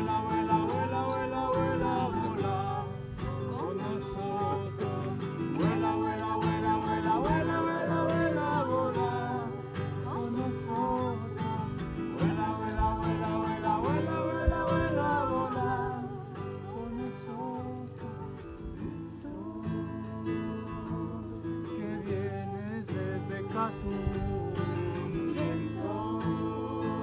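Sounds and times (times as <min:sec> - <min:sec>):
acoustic guitar: 0:00.0 - 0:27.0
person singing: 0:00.0 - 0:27.0.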